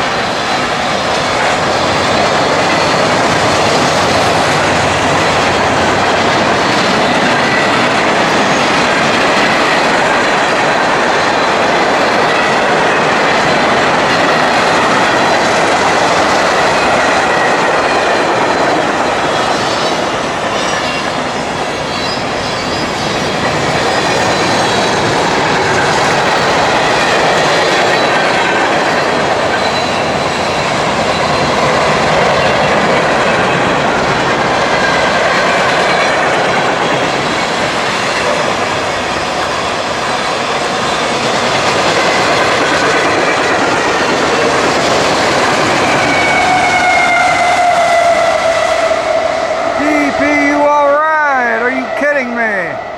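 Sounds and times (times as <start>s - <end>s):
train wheels rumbling on rails: 0.0s - 49.8s.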